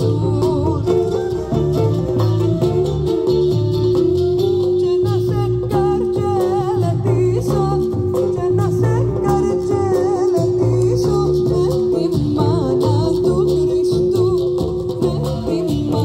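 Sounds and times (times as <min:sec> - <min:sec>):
bass line: 0:00.0 - 0:16.0
plucked strings: 0:00.0 - 0:16.0
wavering vibrato melody: 0:00.0 - 0:16.0.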